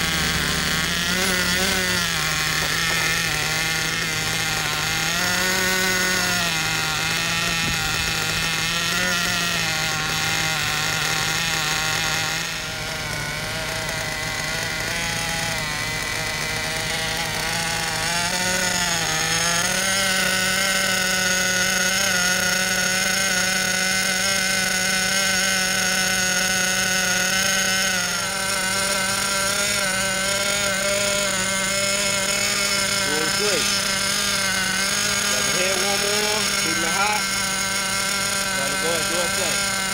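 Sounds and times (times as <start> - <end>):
small nitro engine running: 0.0 - 39.9.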